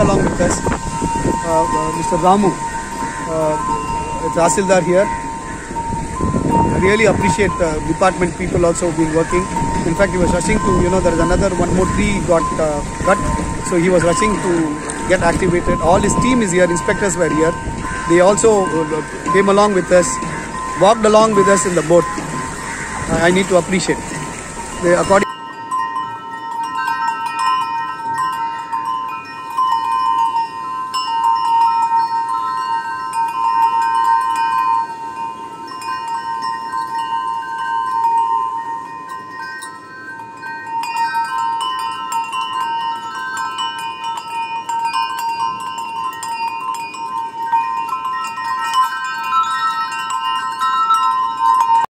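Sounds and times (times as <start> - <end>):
ringing chime-like tones: 0.0 - 51.9.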